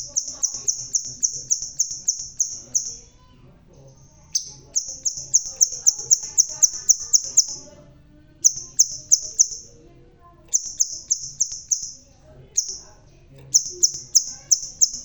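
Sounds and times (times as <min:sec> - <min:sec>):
bird chipping song: 0:00.0 - 0:03.3, 0:03.9 - 0:07.8, 0:08.4 - 0:15.0.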